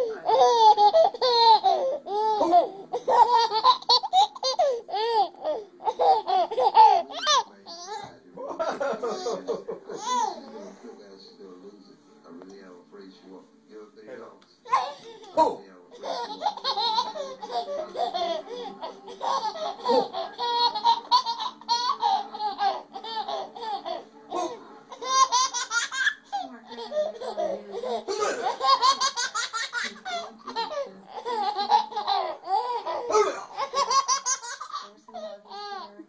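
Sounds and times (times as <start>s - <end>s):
baby laughing: 0.0s - 8.1s, 8.8s - 10.4s, 14.7s - 35.9s.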